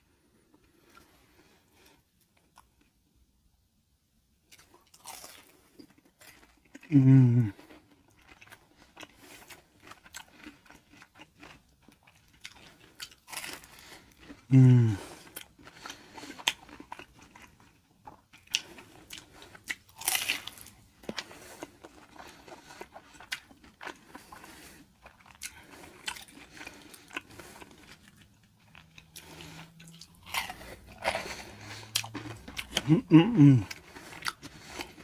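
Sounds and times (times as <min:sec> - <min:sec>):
person chewing: 0:04.5 - 0:35.0
person crunching fried food: 0:04.5 - 0:35.0.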